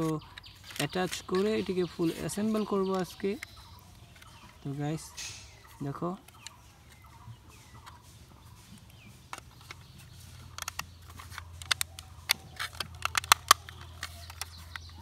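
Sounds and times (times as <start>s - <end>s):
plastic toy parts clicking: 0.0s - 5.4s, 6.2s - 7.1s, 9.3s - 15.0s.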